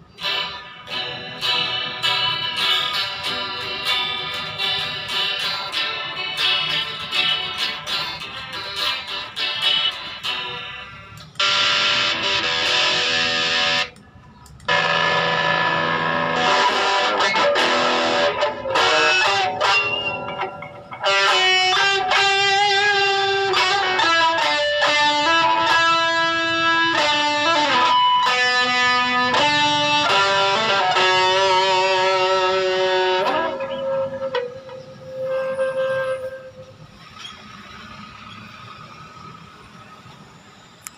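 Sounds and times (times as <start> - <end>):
ringing guitar chords: 0.0 - 14.0, 14.7 - 36.8
distorted electric guitar: 0.0 - 37.0.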